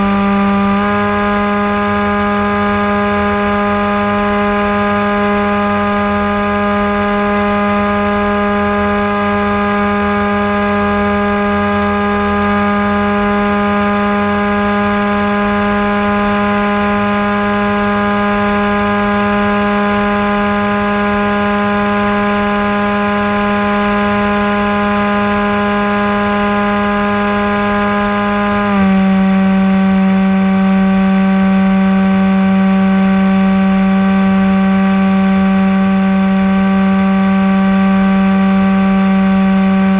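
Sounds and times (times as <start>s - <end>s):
model aircraft motor and propeller drone: 0.0s - 39.9s.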